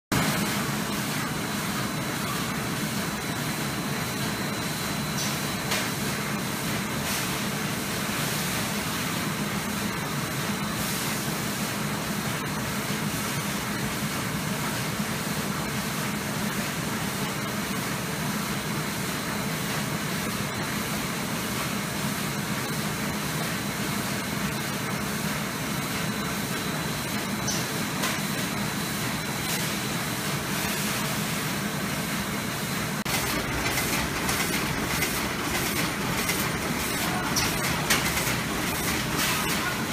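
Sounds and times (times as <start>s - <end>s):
printing machines running: 0.1s - 39.9s.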